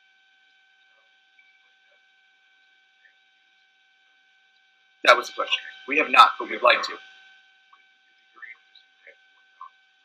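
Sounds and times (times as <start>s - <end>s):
faint high-pitched hum: 0.0s - 10.0s.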